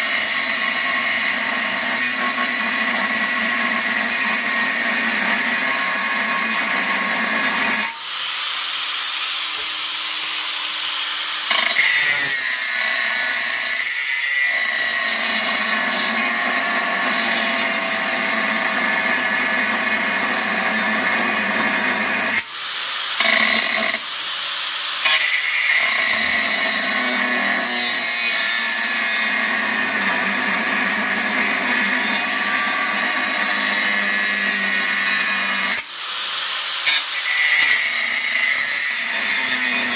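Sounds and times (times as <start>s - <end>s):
power tool whining on steel: 0.0s - 39.9s.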